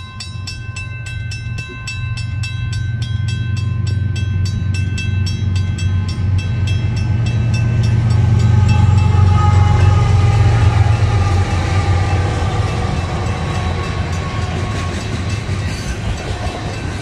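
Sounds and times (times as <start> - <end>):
diesel locomotive engine rumble: 0.0 - 17.0
railroad crossing bell ringing: 0.0 - 17.0.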